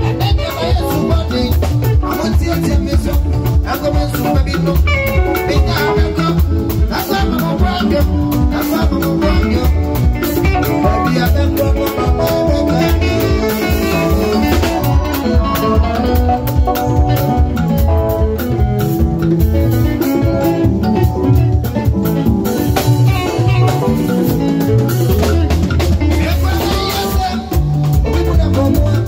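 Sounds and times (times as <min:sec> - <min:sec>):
live band playing highlife groove: 0:00.0 - 0:29.0.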